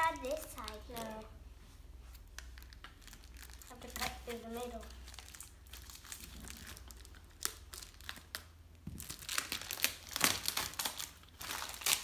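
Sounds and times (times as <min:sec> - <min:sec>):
plastic packaging crinkling: 0:02.4 - 0:12.0.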